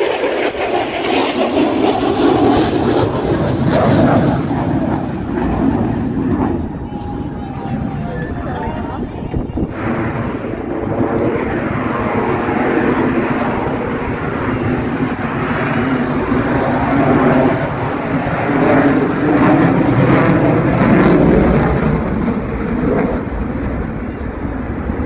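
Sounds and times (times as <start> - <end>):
jet engines flying overhead: 0.0 - 25.0.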